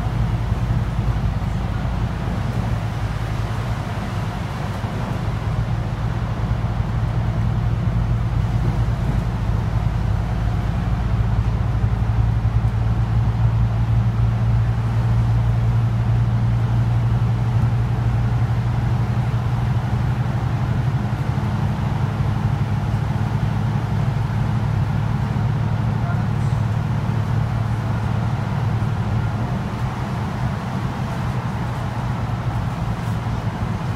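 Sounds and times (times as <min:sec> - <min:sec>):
bus engine drone: 0:00.0 - 0:33.9
road noise hiss: 0:00.0 - 0:33.9.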